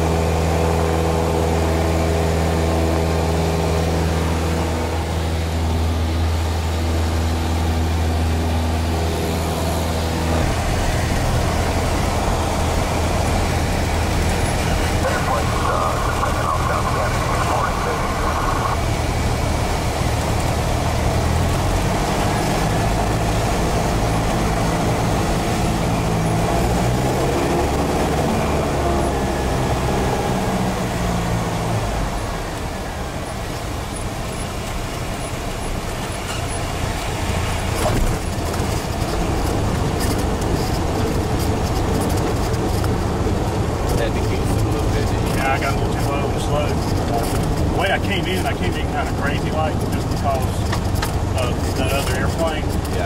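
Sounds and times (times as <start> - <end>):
airplane engine and propeller droning: 0.0 - 53.0.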